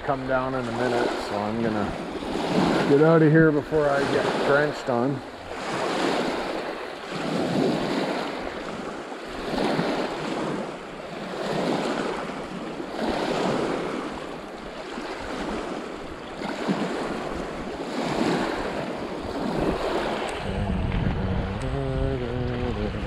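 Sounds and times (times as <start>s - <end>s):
small waves washing on pebbles: 0.0s - 20.5s.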